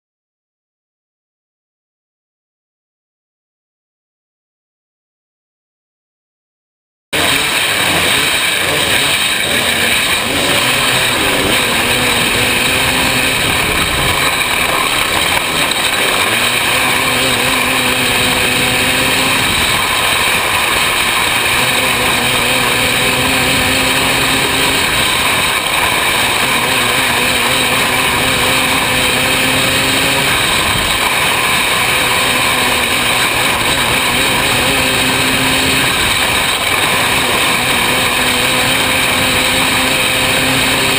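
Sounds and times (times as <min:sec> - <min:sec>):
racing car engine revving: 0:07.2 - 0:40.9.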